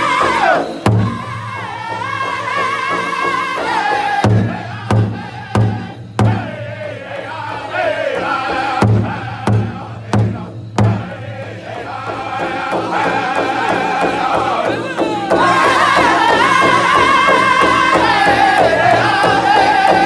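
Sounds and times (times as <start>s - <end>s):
large hand drum beating: 0.0s - 20.0s
men singing in high chorus: 0.0s - 20.0s.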